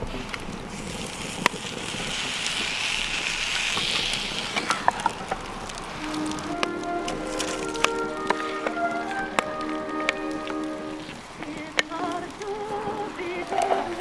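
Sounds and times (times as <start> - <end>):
fire crackling and popping: 0.0 - 14.0
meat sizzling over wood fire: 0.0 - 14.0.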